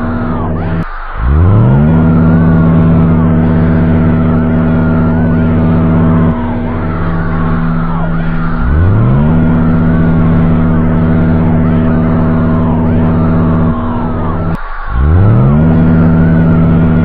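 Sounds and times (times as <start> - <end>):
low buzzing alarm drone: 0.0 - 17.0.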